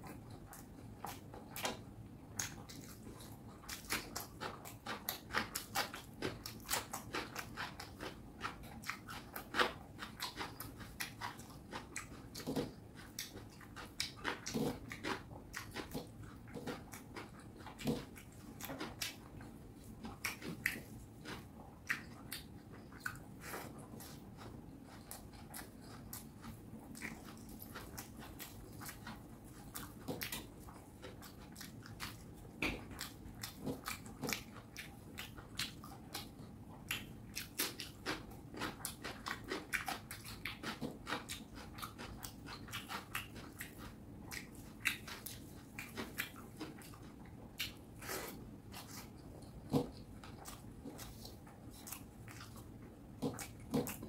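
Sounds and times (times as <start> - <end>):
wet chewing and mouth clicks: 0.0 - 54.0.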